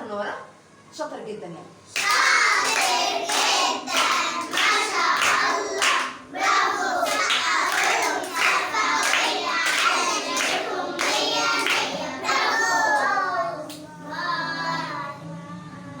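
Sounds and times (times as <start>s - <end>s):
children clapping: 2.0s - 14.8s
children chanting: 2.0s - 16.0s.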